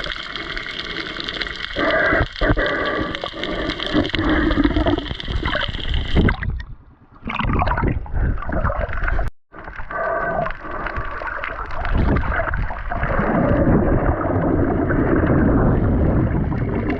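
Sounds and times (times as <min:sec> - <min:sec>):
underwater gurgling and bubbles: 0:00.0 - 0:16.9.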